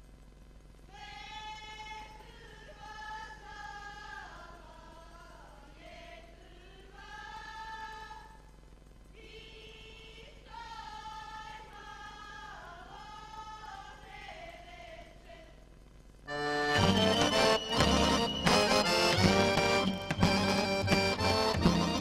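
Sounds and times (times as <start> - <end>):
group of voices singing folk song: 0.9 - 8.4, 9.2 - 15.6, 16.3 - 22.0.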